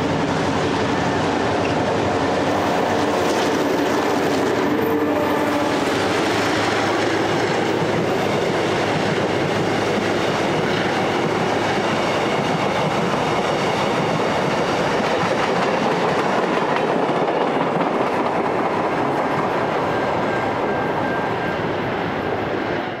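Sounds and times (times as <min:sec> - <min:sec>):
train wheels rolling on rails: 0:00.0 - 0:23.0.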